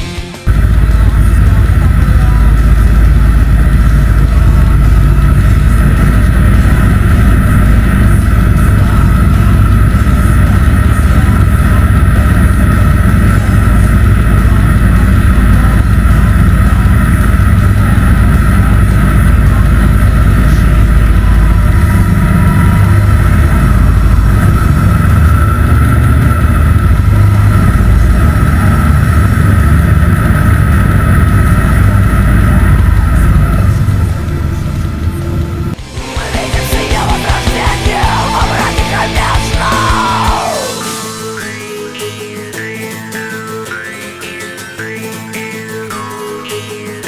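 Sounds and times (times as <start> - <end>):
thin steady whine: 0.0 - 43.2.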